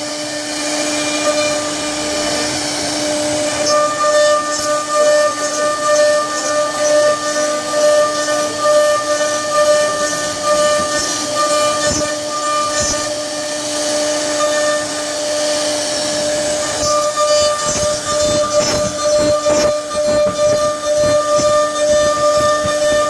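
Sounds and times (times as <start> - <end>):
bit cutting into wood: 0.0 - 23.0
router spindle whine: 0.0 - 23.0.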